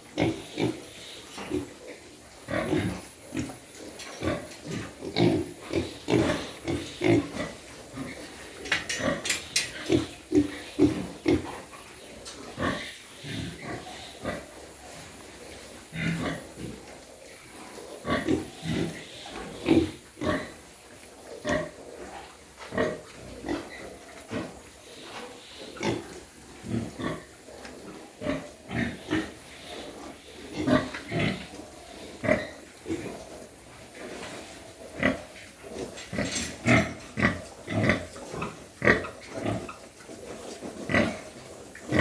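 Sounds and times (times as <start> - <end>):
pigs grunting: 0.0 - 42.0.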